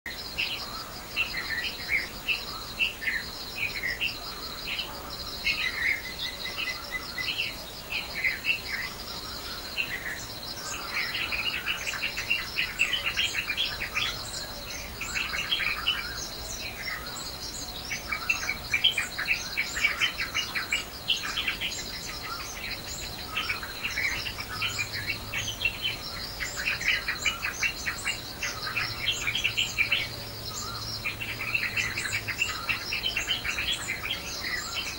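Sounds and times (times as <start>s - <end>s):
birds chirping: 0.1s - 34.9s
high insect trill: 0.1s - 34.9s.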